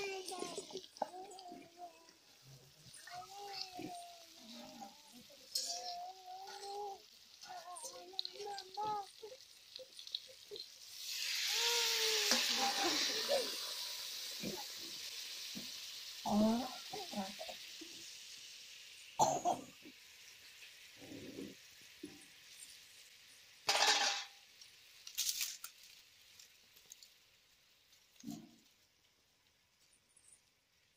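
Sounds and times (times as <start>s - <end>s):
hot oil sizzling: 0.0s - 30.9s.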